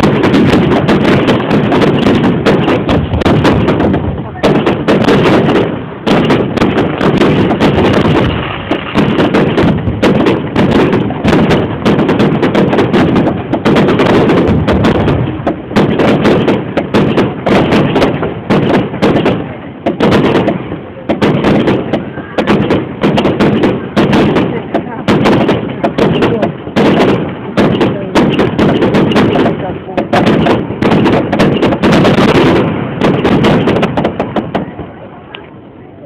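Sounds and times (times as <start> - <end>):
fireworks bursting bangs: 0.0 - 35.1.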